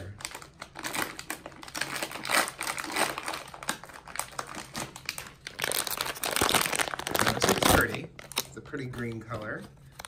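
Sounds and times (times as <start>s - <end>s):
crinkly packaging crackling: 0.0s - 10.0s.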